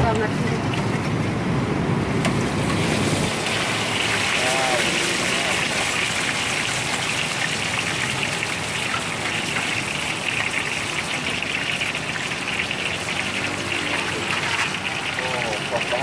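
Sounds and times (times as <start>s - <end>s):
hot oil sizzling and bubbling: 0.0s - 16.0s.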